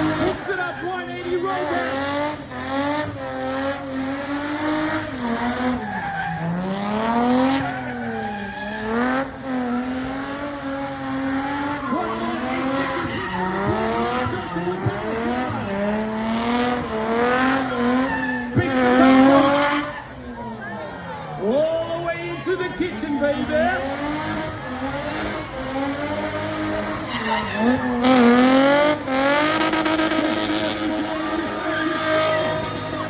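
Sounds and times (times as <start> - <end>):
car engine at high revs: 0.0 - 33.0
tyres squealing: 3.4 - 15.8, 17.4 - 21.4, 22.4 - 33.0.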